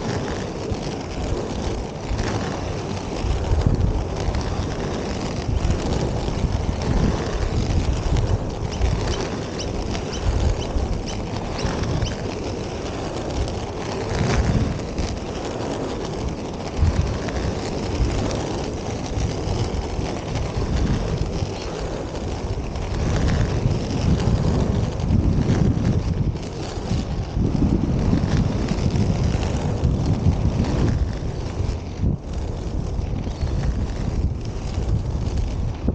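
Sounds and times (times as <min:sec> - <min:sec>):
skate wheels rolling on asphalt: 0:00.0 - 0:35.9
wind buffeting microphone: 0:00.0 - 0:35.9.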